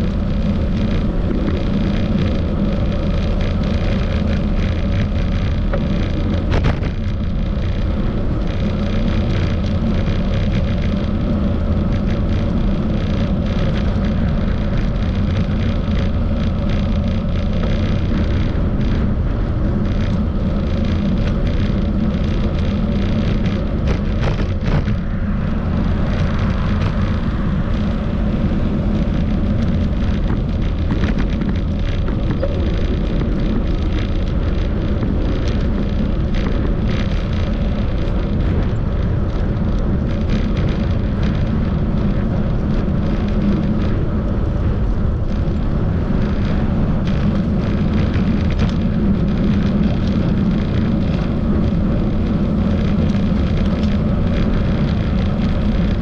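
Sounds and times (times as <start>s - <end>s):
road rumble: 0.0s - 56.0s
wind on microphone: 0.0s - 56.0s.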